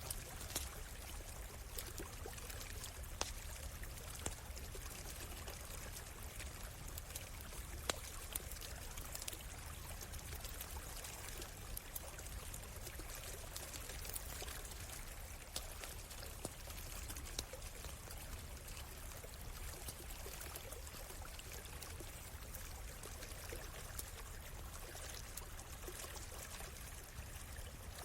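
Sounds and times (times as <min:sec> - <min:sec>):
campfire crackling and popping: 0:00.0 - 0:26.4
stream water running: 0:00.0 - 0:28.0.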